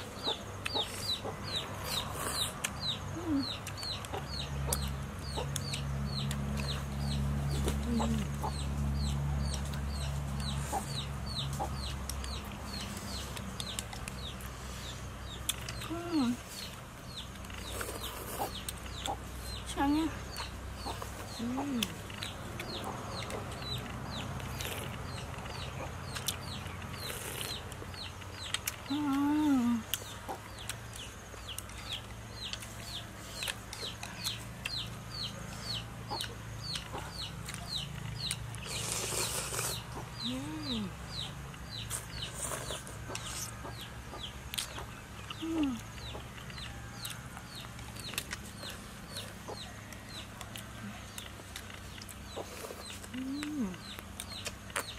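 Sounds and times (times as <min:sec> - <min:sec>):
chickens clucking: 0:00.0 - 0:54.9.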